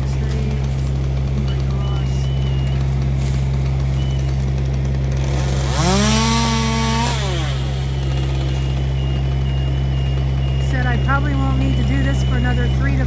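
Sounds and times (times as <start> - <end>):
chainsaw revving: 0.0 - 13.0
large engine running: 0.0 - 13.0.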